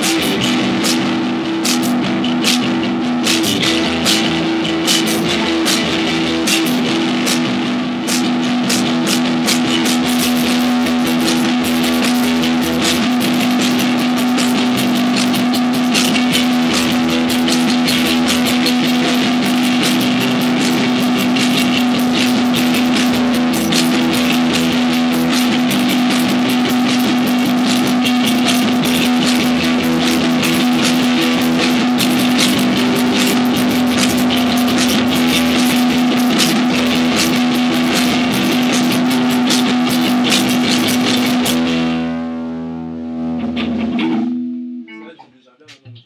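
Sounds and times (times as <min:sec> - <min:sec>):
drum kit with cymbals: 0:00.0 - 0:42.2
electric guitars and bass: 0:00.0 - 0:45.2.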